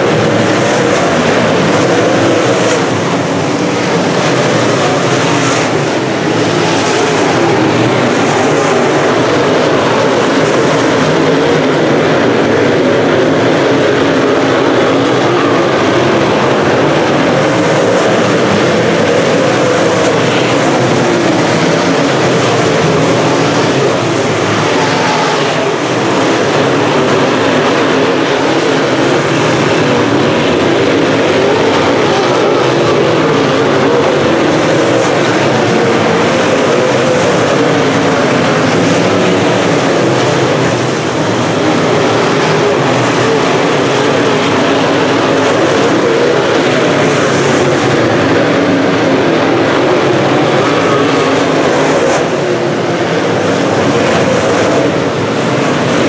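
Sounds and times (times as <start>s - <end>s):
race car engines at speed: 0.0s - 56.0s.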